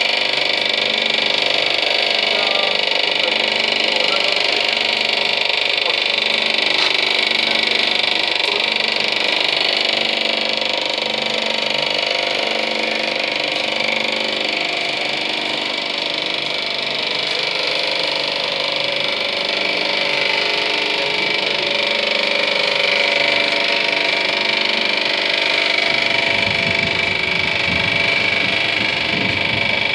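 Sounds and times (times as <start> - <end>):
engine model whirring and clattering: 0.0 - 29.9.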